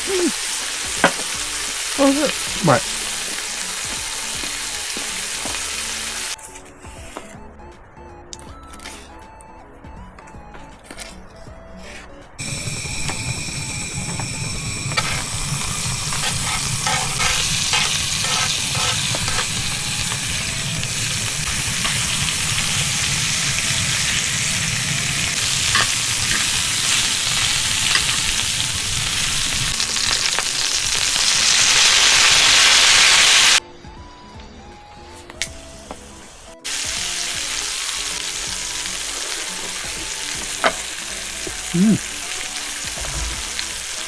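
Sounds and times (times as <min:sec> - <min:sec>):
food sizzling in a hot pan: 0:00.0 - 0:06.4, 0:12.4 - 0:33.6, 0:36.0 - 0:44.0.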